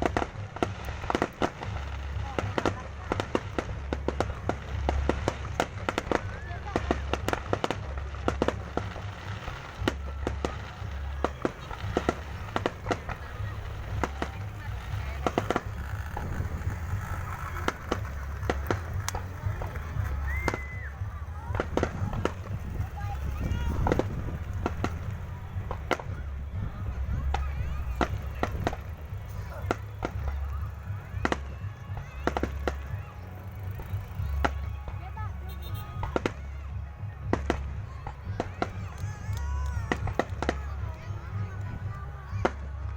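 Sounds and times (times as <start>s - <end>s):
fireworks cracking and popping: 0.0s - 42.9s
low rumble: 0.0s - 42.9s.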